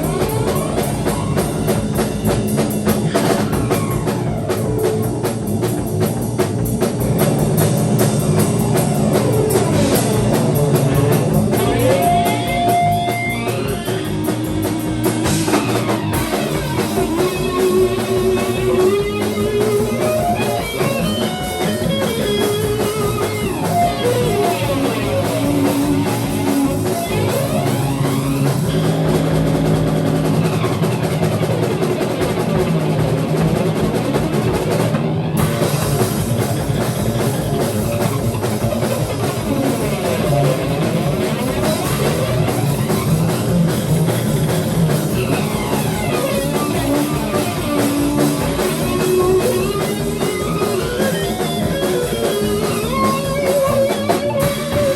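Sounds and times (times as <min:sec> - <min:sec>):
drum kit beat: 0:00.0 - 0:54.9
electric guitar riffs: 0:00.0 - 0:54.9.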